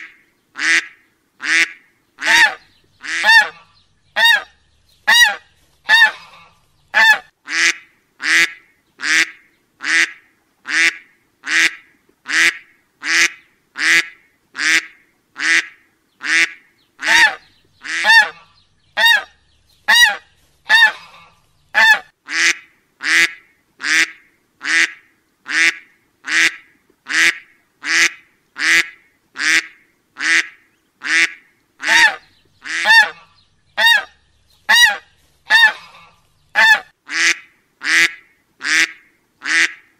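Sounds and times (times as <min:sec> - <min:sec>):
duck quacking: 0:00.0 - 0:04.5, 0:05.1 - 0:19.3, 0:19.9 - 0:39.9.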